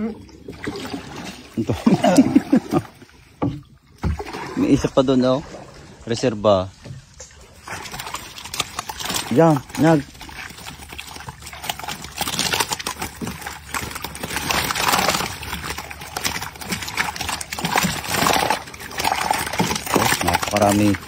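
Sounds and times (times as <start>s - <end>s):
fish thrashing and splashing: 0.0s - 21.0s.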